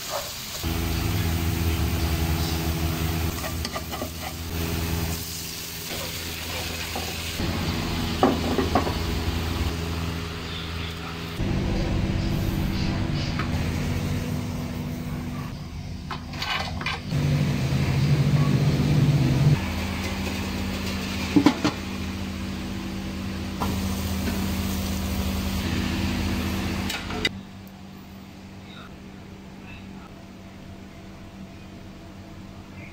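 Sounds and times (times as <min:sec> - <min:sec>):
low machine hum: 0:00.6 - 0:32.9.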